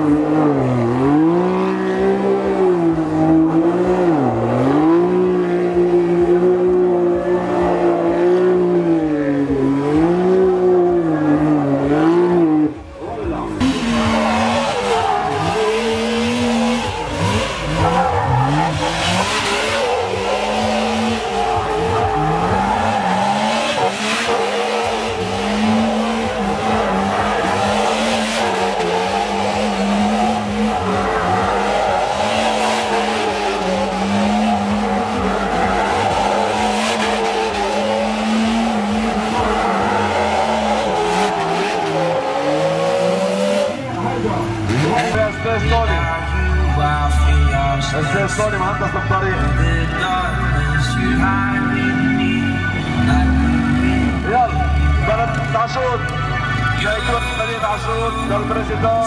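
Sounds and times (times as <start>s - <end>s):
engine revving: 0.0s - 45.7s, 49.4s - 55.5s.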